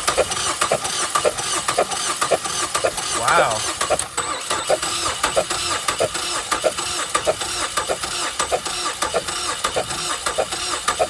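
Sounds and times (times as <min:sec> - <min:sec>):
engine cranking on starter: 0:00.0 - 0:11.0.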